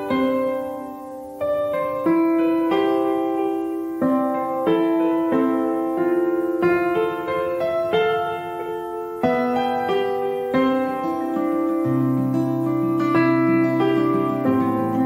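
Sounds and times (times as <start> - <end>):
calm piano piece: 0.0 - 15.0.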